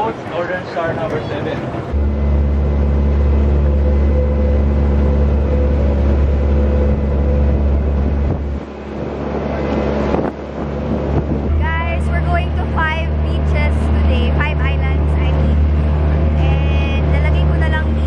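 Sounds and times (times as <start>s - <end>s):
boat engine rumbling: 0.0s - 18.0s.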